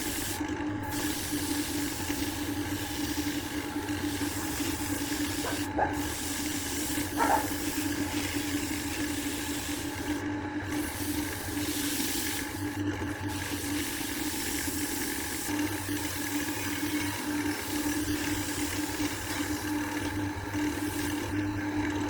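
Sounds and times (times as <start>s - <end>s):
wood lathe motor hum: 0.0s - 22.0s.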